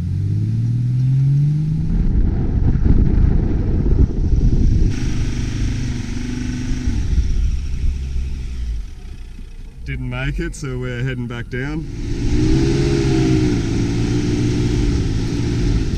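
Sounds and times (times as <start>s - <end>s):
engine working hard under load: 1.9s - 15.9s.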